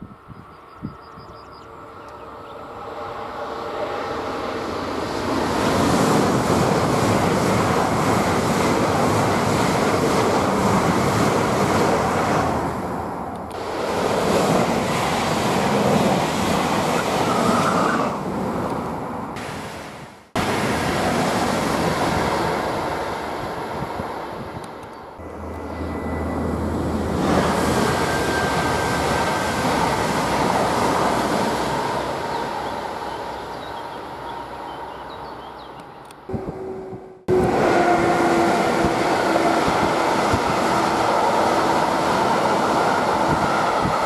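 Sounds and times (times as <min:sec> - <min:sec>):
high-speed train passing: 0:00.0 - 0:44.0
train approaching: 0:00.0 - 0:44.0.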